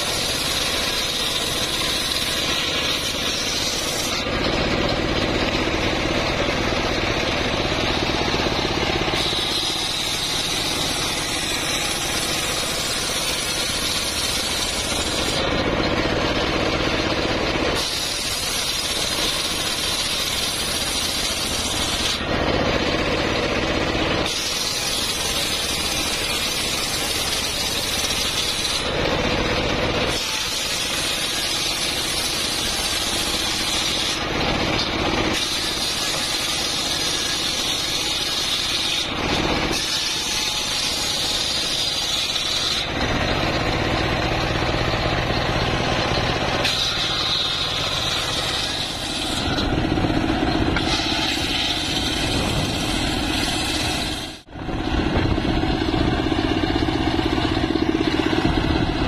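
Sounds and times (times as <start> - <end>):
engine running: 0.0 - 59.0
saw blade cutting wood: 0.0 - 59.0.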